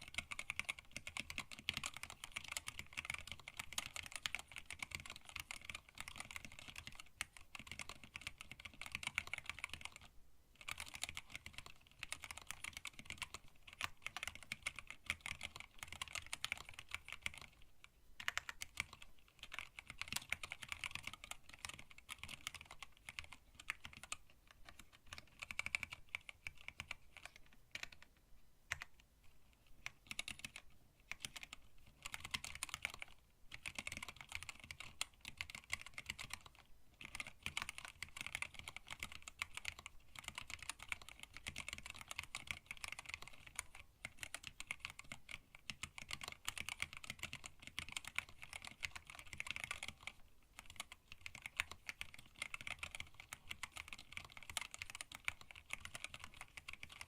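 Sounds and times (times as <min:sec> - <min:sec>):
mechanical keyboard typing: 0:00.0 - 0:29.0, 0:29.6 - 0:57.0.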